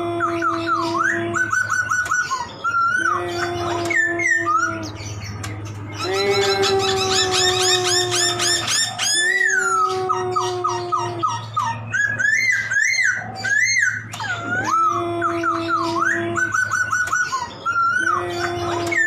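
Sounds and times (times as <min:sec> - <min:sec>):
bird singing: 0:00.0 - 0:19.0.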